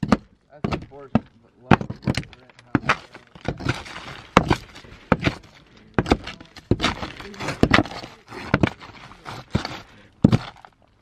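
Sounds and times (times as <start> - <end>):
hammer knocking on shingles: 0.0 - 10.7
gritty scraping: 0.0 - 11.0.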